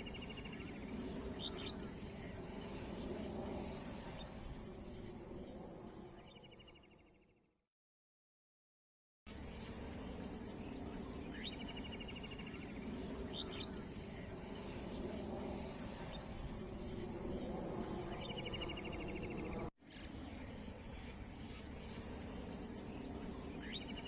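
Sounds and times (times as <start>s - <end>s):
crickets chirping: 0.0s - 7.0s, 9.3s - 24.0s.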